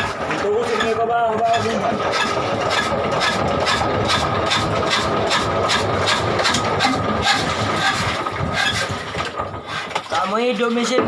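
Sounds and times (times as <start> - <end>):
small boat engine knocking: 0.0 - 11.0.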